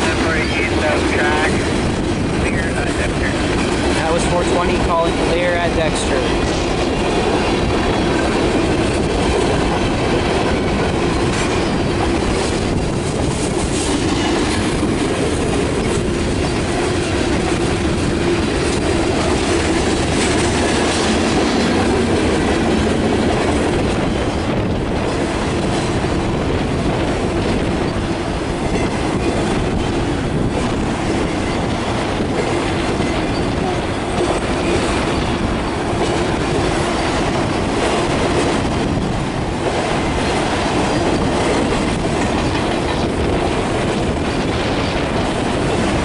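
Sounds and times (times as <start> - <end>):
train wheels clattering on rails: 0.0 - 46.0.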